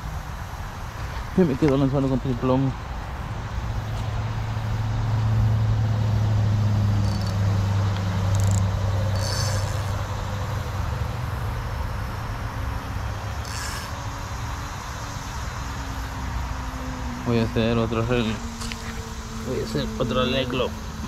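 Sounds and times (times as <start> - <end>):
vehicle engine drone: 0.0 - 21.0.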